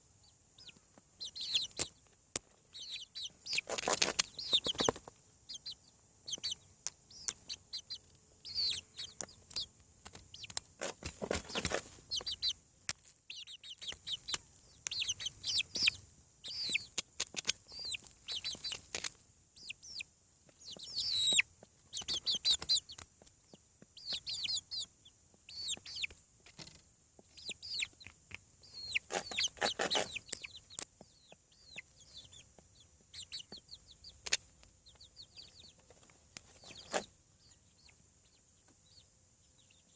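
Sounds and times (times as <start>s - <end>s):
chicks peeping and chirping: 0.0s - 39.9s
chickens clucking: 0.6s - 12.6s, 13.3s - 39.9s.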